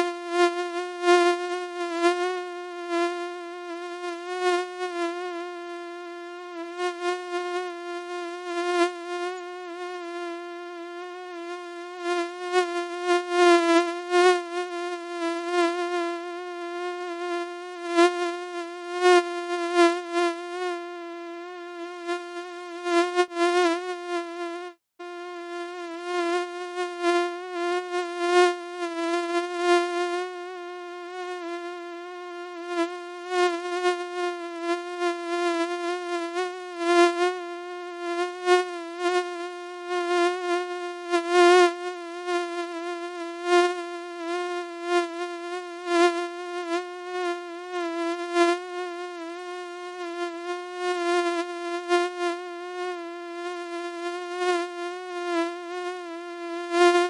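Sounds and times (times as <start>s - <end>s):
mosquito buzzing whine: 0.0s - 57.0s.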